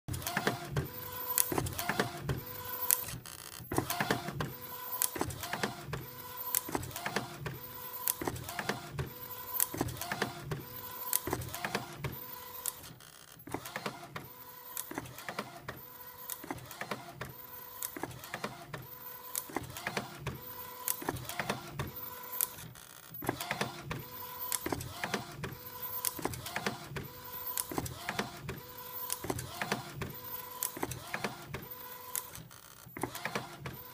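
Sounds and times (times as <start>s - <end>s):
inkjet printer carriage sweeping: 0.1s - 33.9s.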